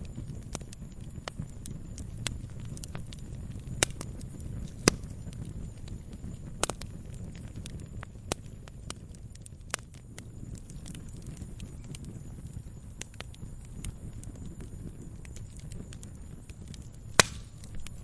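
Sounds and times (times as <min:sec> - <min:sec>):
campfire crackling and popping: 0:00.0 - 0:18.0
low rumble of flames: 0:00.0 - 0:18.0.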